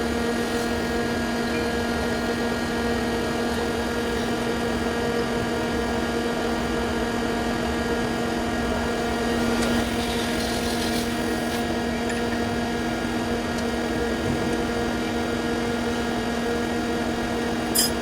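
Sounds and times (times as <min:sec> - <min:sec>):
lathe spindle humming whine: 0:00.0 - 0:18.0.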